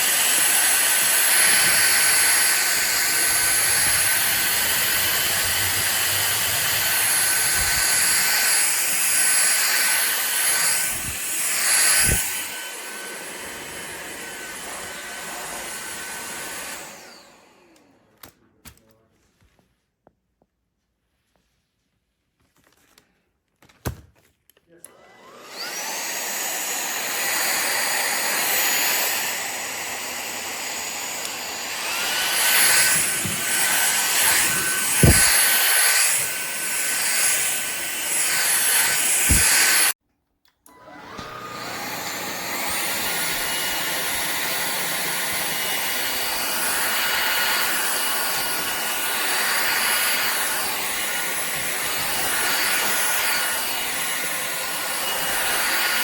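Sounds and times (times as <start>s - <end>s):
vacuum cleaner motor whine: 0.0s - 18.3s, 24.8s - 40.0s, 40.6s - 56.0s.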